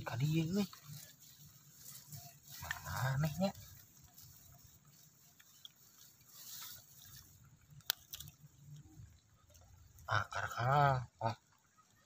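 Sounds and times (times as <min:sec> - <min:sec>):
squelching in muddy water: 0:00.4 - 0:11.7.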